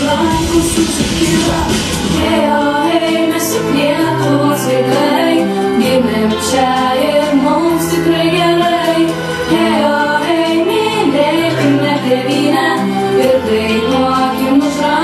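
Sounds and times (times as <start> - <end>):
song with voices singing: 0.0 - 15.0.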